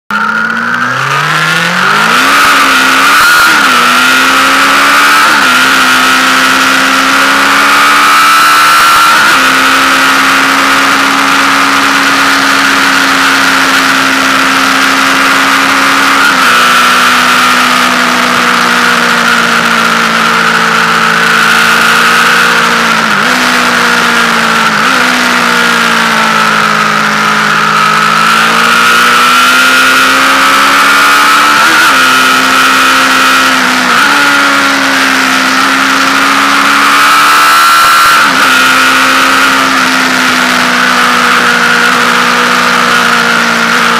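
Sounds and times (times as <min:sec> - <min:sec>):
motorcycle engine at high revs: 0:00.0 - 0:43.9.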